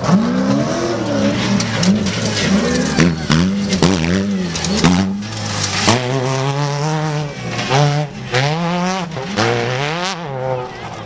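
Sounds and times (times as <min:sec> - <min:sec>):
race vehicle engine revving: 0:00.0 - 0:11.0.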